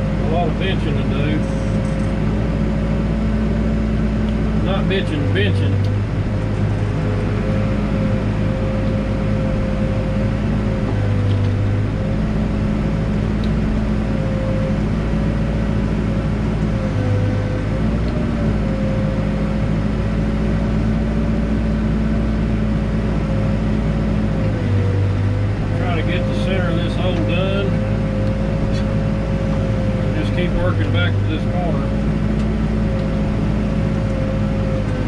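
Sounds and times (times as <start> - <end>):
diesel engine running: 0.0 - 35.0
steady whine: 0.0 - 35.0.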